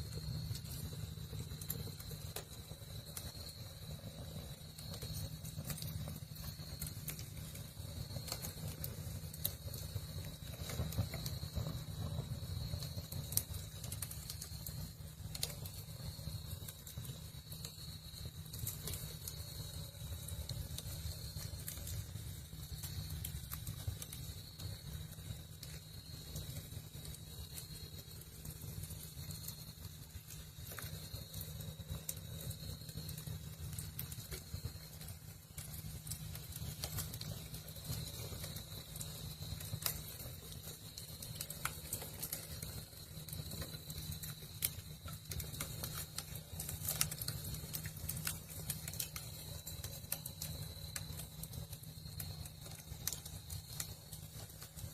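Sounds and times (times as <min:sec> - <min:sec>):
low fire rumble: 0:00.0 - 0:54.9
wood fire crackling: 0:00.0 - 0:54.9.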